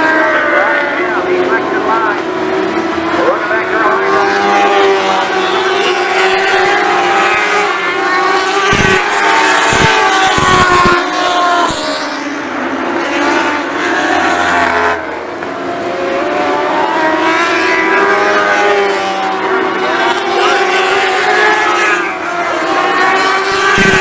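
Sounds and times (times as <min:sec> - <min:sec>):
racing car engines revving high: 0:00.0 - 0:24.0.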